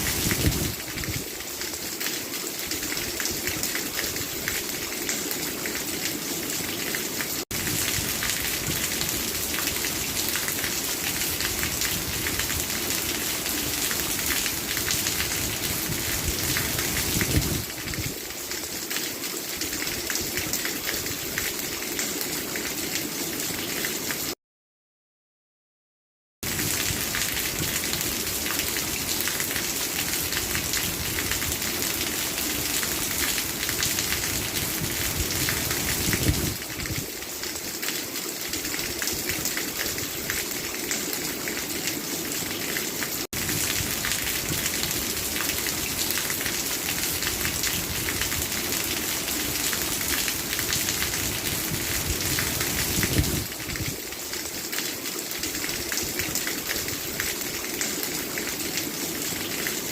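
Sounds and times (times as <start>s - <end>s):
steady rain falling: 0.0s - 24.4s, 26.4s - 59.9s.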